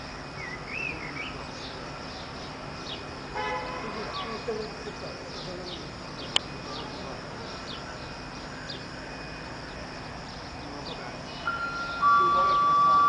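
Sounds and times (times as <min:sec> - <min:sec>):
birds chirping: 0:00.0 - 0:13.0
outdoor background hum: 0:00.0 - 0:13.0.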